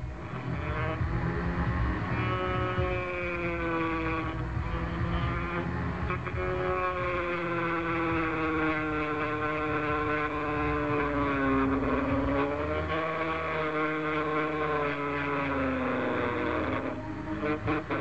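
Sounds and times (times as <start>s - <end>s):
rotary tool cutting whine: 0.0s - 18.0s.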